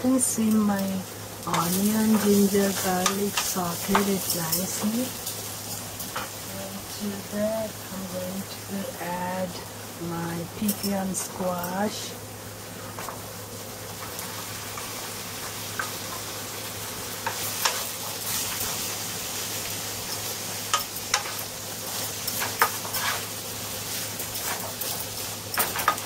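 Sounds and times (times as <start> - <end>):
squash sizzling in frying pan: 0.0 - 26.0.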